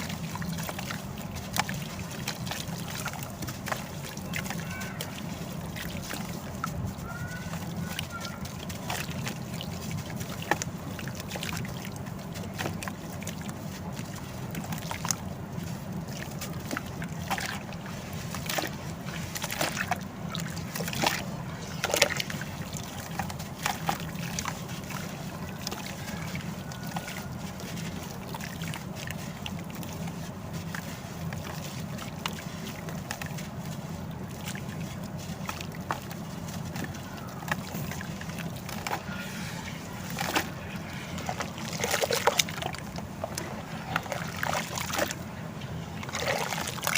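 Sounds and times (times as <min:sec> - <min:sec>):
water sloshing and trickling: 0:00.0 - 0:46.9.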